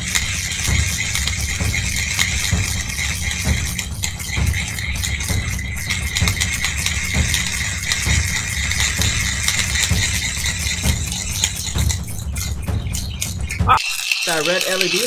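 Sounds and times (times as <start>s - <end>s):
hand-crank dynamo whirring: 0.0s - 15.0s.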